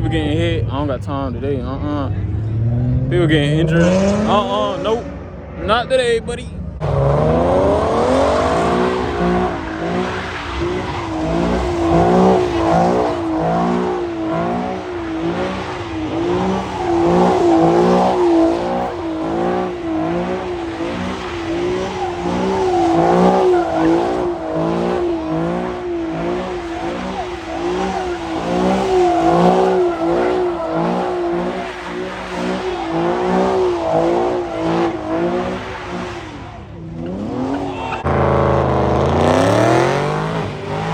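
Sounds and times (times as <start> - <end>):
car engine revving high: 0.0 - 40.9.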